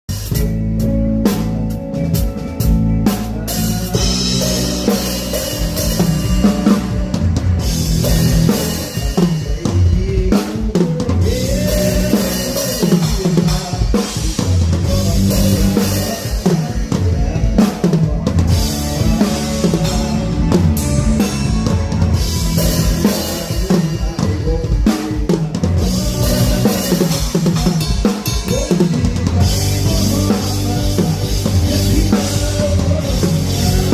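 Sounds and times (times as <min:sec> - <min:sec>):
rock drum kit beat: 0:00.0 - 0:33.9
bass and guitar playing: 0:00.1 - 0:33.9.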